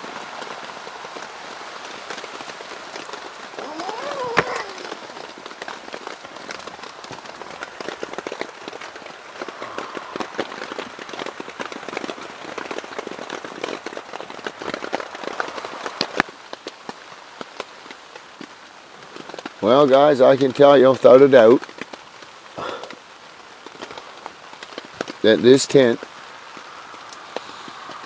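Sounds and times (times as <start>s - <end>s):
rain pattering on a tent: 0.0s - 28.0s.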